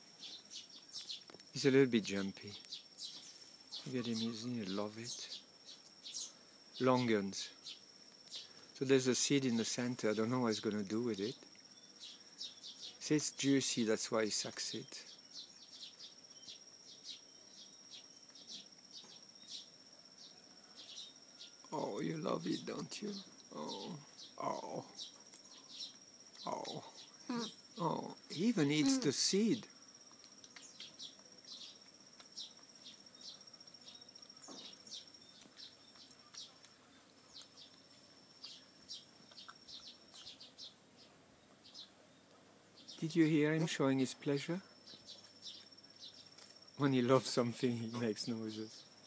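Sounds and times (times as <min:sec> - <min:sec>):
insects trilling: 0:00.0 - 0:49.0.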